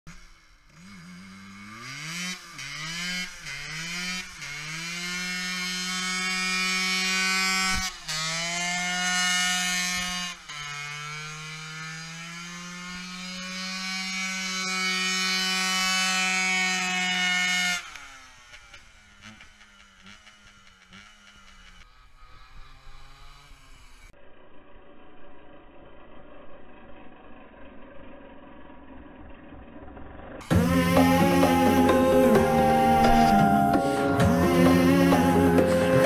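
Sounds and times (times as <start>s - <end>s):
moped engine revving: 0.1s - 36.0s.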